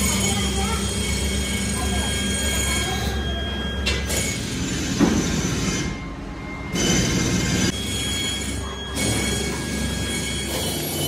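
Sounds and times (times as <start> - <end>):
foundry machinery noise: 0.0 - 11.0
high-pitched whining tones: 0.0 - 11.0.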